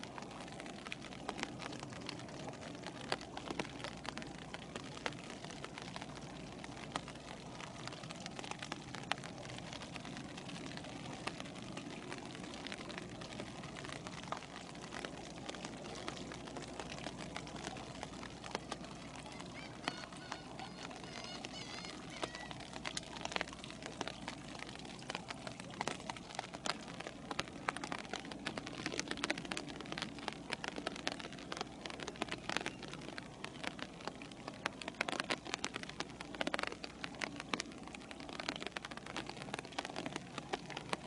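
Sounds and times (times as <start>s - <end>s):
raindrops ticking on hard surface: 0.0s - 41.0s
steady rain hiss: 0.0s - 41.0s.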